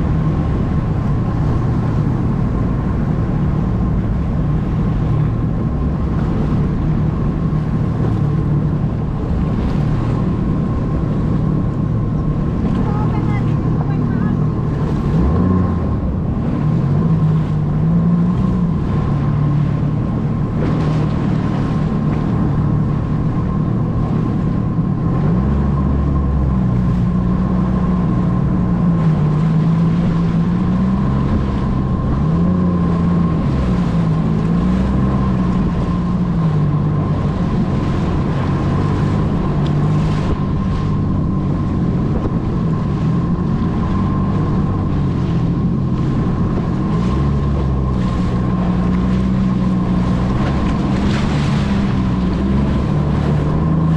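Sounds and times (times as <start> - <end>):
jet ski engine running: 0.0 - 53.9.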